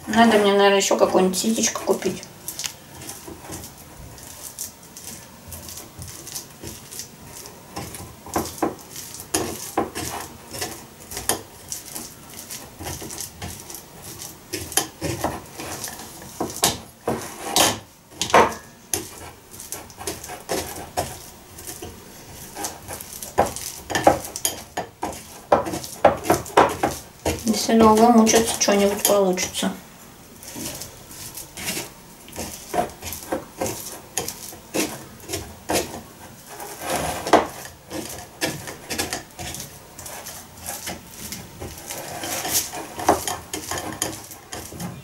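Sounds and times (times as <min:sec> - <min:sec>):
metal spoon scraping a mesh sieve: 0:00.0 - 0:29.6, 0:30.4 - 0:45.0.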